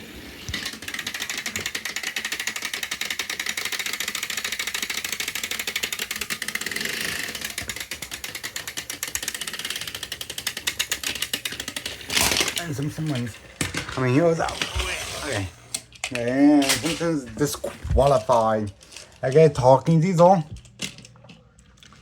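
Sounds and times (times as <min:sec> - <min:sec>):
toy train motors whirring: 0:00.0 - 0:21.1.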